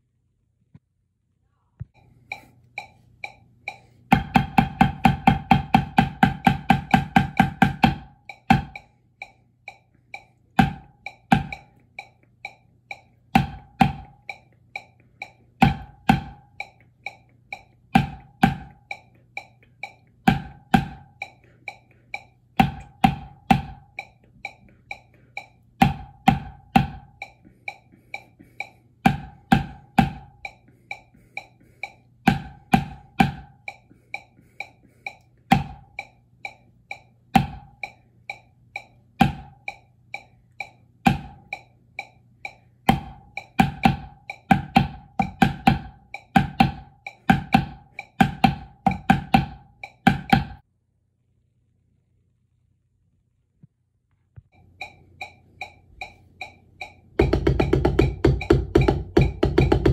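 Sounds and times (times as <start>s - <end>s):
metronome clicking: 2.0s - 50.6s, 54.5s - 59.9s
drumsticks striking practice pad: 2.3s - 50.6s, 54.6s - 59.9s.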